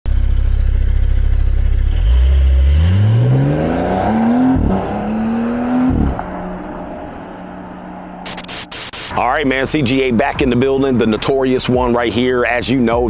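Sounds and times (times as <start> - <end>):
car engine idling and revving: 0.1 - 13.0.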